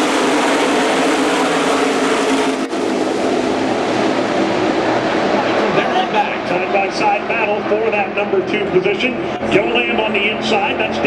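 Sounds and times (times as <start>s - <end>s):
race truck engines droning: 0.0s - 11.0s.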